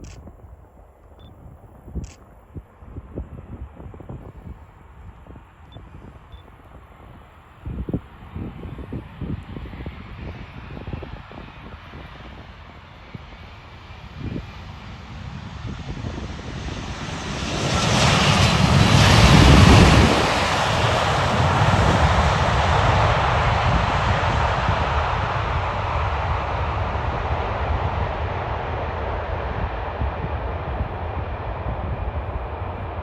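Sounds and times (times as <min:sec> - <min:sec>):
jet airliner engines: 0:00.0 - 0:33.0.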